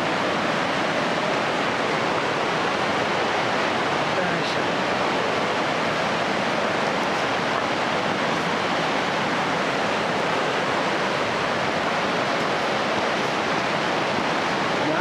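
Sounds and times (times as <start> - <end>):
meltwater rushing: 0.0 - 15.0.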